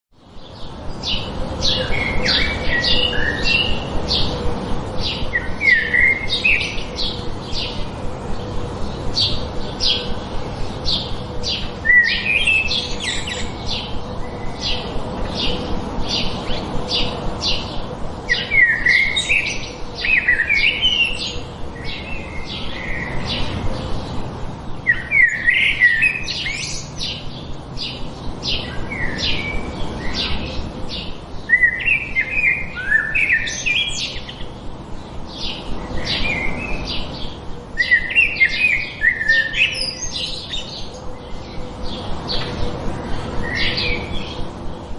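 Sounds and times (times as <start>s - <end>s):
songbirds chirping: 0.2s - 44.9s.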